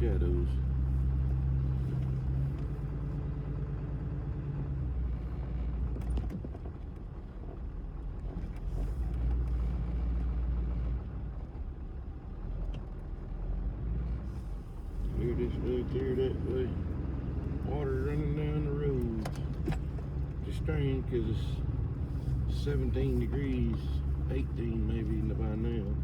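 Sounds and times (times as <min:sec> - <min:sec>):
car engine hum and road rumble: 0:00.0 - 0:26.0.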